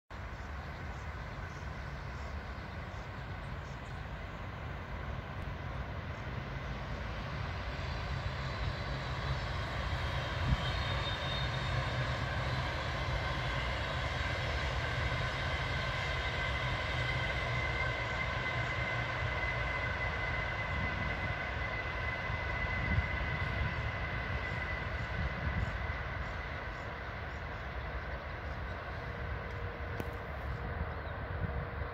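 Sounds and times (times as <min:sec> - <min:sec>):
electric train passing: 0:00.1 - 0:31.9.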